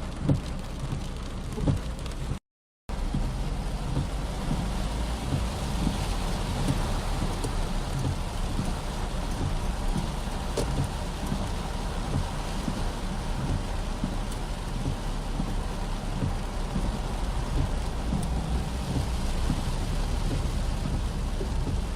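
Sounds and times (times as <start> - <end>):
heavy rain splashing: 0.0 - 21.9.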